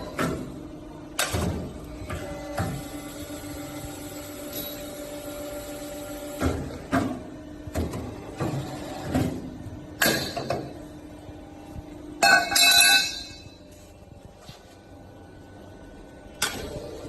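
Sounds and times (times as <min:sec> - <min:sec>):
pipe bending machine hum: 0:00.0 - 0:17.0.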